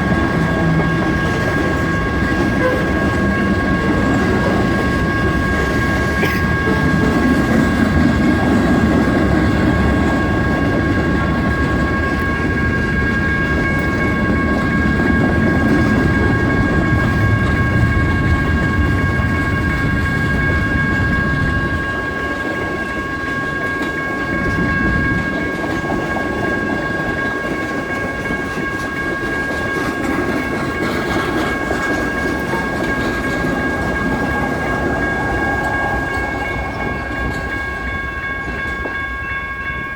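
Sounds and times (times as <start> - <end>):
crossing warning bells ringing: 0.0 - 39.9
freight train rumble and wheel clatter: 0.0 - 39.9.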